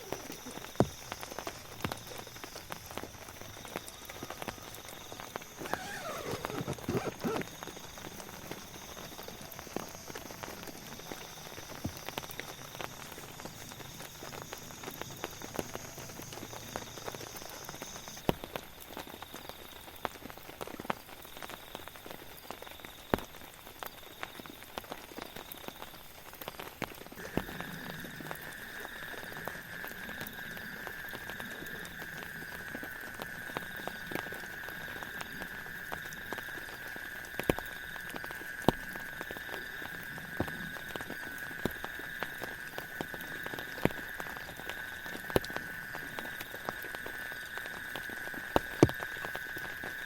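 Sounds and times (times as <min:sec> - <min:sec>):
rain pattering: 0:00.0 - 0:50.0.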